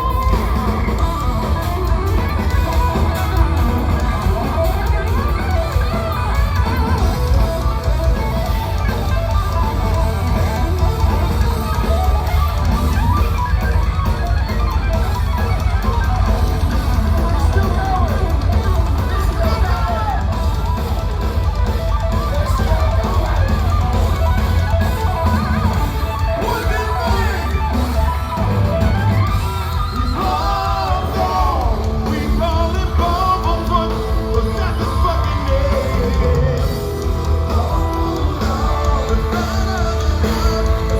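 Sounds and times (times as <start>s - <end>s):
metal band playing live: 0.0s - 40.9s.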